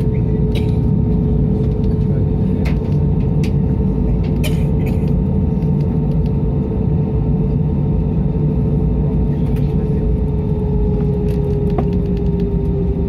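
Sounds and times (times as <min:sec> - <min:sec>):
airplane cabin engine rumble: 0:00.0 - 0:13.0
constant hum: 0:00.0 - 0:13.0.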